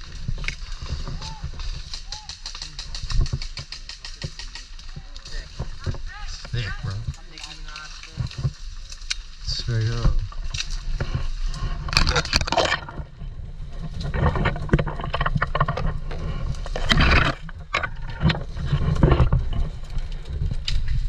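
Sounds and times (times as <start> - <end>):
low rumble on microphone: 0.0 - 21.0
rustling: 0.0 - 21.0.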